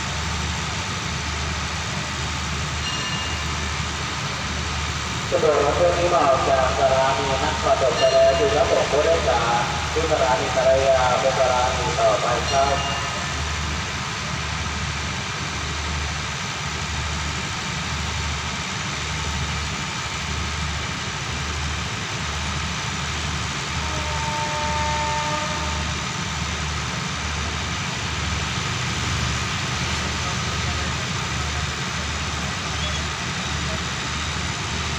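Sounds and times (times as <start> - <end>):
locomotive diesel engine throbbing: 0.0 - 34.9.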